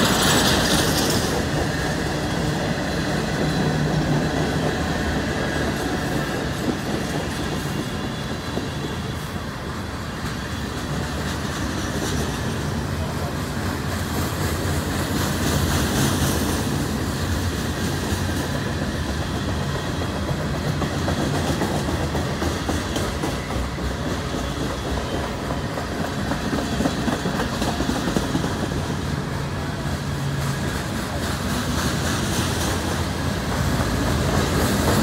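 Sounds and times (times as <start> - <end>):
freight train cars rolling past: 0.0 - 35.0
steel wheels on rails: 0.0 - 35.0.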